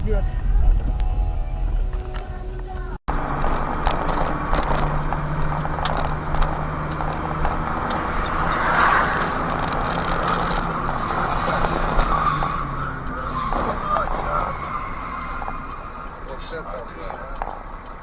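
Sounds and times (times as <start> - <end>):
car engine hum: 0.0 - 18.0
road and tyre noise: 0.0 - 18.0.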